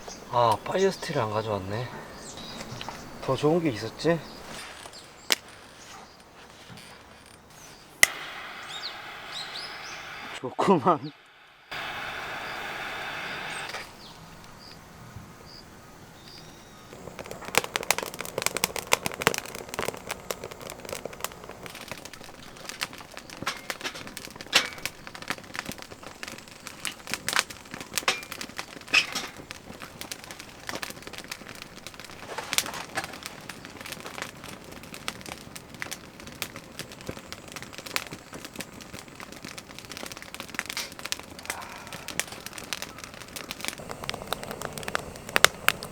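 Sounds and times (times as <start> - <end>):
firewood crackling and popping: 0.0 - 45.9
steady hiss: 0.0 - 45.9.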